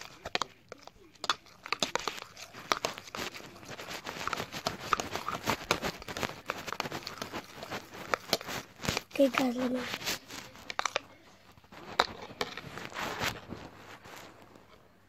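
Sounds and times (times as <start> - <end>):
slime crinkling and crackling: 0.0 - 14.8.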